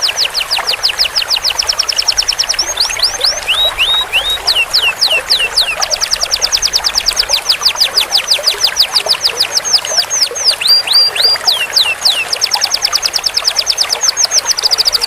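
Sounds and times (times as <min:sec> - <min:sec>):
canary trilling: 0:00.0 - 0:15.0.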